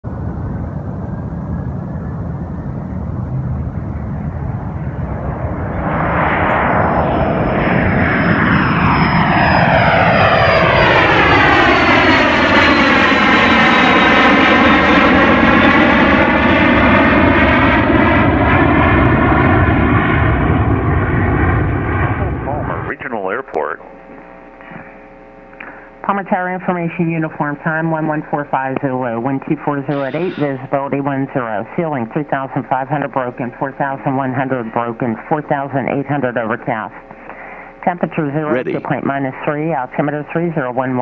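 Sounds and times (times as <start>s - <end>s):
high engine whine: 0.0s - 41.0s
jet engines running: 0.1s - 41.0s.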